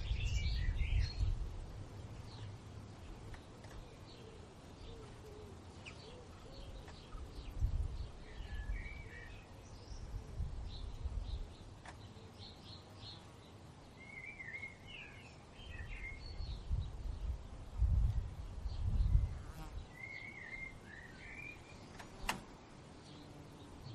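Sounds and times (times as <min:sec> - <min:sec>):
bird warbling song: 0:00.0 - 0:01.4, 0:02.0 - 0:17.4, 0:18.7 - 0:22.4
small birds chirping: 0:00.0 - 0:23.9.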